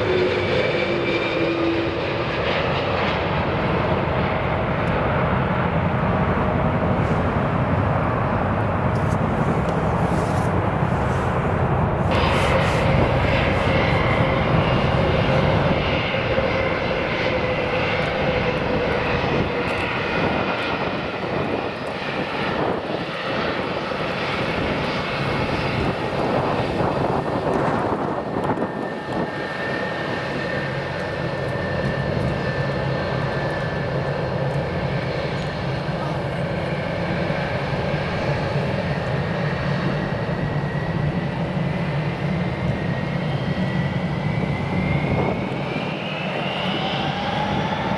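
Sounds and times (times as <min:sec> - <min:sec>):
airliner engines whining: 0:00.0 - 0:47.9.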